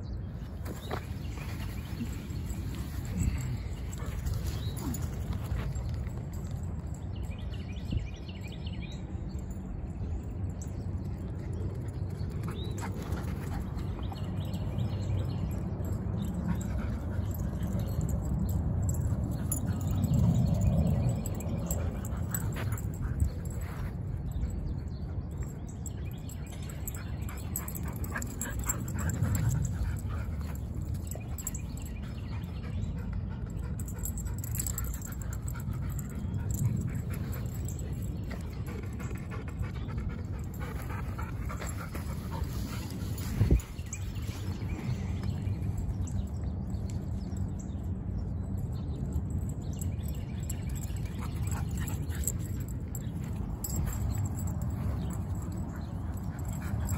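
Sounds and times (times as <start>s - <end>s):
steady low rumble: 0.0s - 56.9s
dogs breathing and moving: 0.2s - 7.8s, 9.5s - 56.9s.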